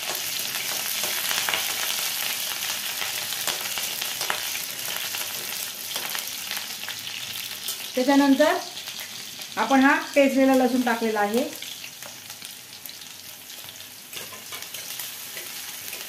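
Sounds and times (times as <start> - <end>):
chillies sizzling in hot oil: 0.0 - 16.0.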